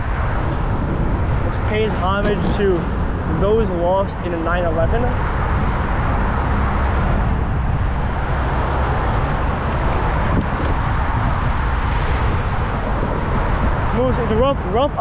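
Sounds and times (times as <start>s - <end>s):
road traffic rumbling: 0.0s - 15.0s
wind noise while cycling: 0.0s - 15.0s.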